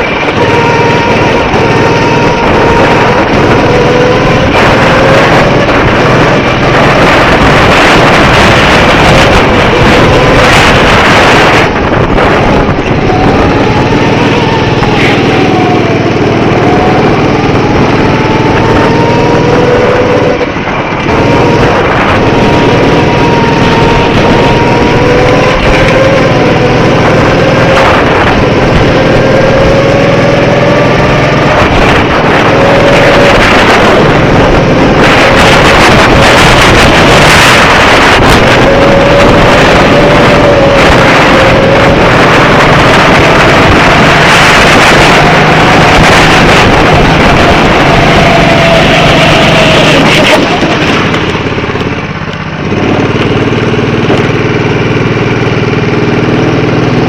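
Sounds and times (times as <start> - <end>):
go-kart engine revving: 0.0 - 57.0
loud steady rush of noise: 0.0 - 57.0.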